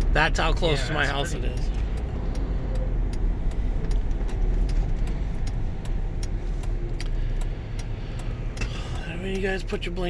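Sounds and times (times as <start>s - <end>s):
car engine and road rumble: 0.0s - 10.0s
light ticking clicks: 0.0s - 10.0s.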